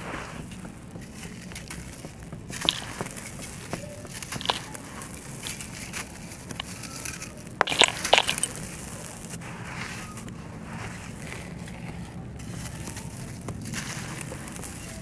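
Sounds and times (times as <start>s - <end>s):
concrete crunching and cracking by hand: 0.0s - 15.0s.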